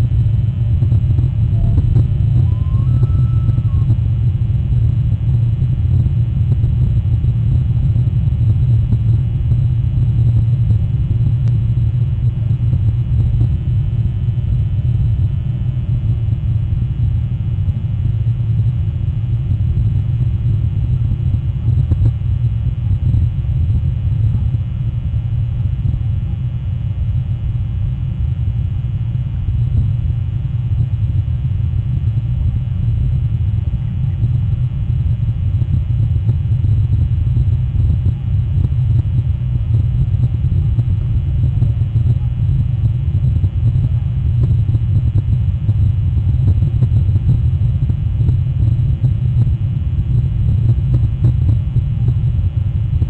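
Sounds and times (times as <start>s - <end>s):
low rumble: 0.0s - 53.0s.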